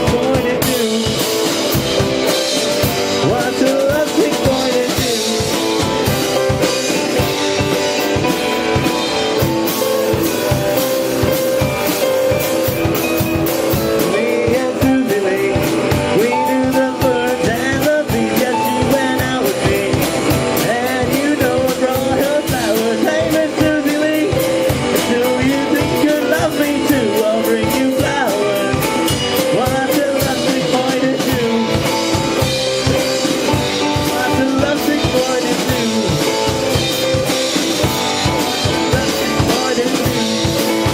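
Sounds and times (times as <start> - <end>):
drum kit beat: 0.0 - 40.9
live rock and roll band: 0.0 - 40.9.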